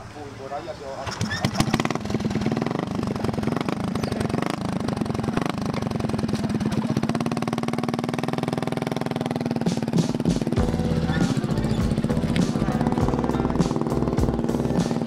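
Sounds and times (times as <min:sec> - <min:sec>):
small motorcycle engine idling: 0:00.8 - 0:15.0.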